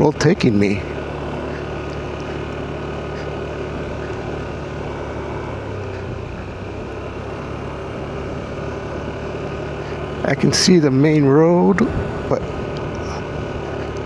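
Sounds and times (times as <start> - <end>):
car engine hum: 0.0 - 14.0
road noise: 0.0 - 14.0.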